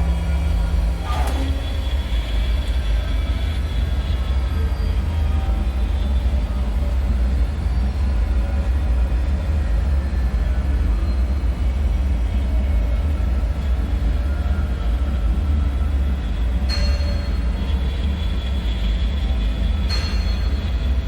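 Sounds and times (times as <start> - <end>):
deep ambient drone: 0.0 - 21.0.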